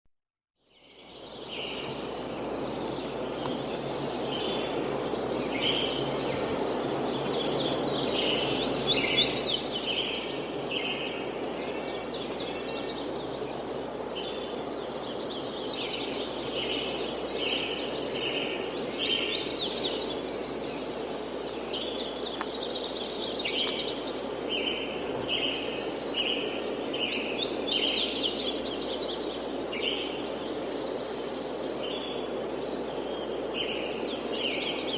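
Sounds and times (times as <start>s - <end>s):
light wind hiss: 0.7s - 34.9s
birds chirping and trilling: 0.8s - 34.9s.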